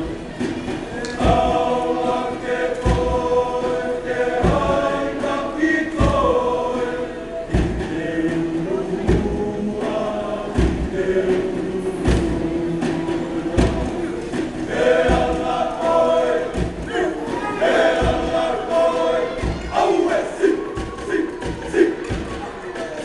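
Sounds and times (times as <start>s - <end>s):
boys singing in chorus: 0.0s - 23.0s
drum beat: 0.0s - 23.0s.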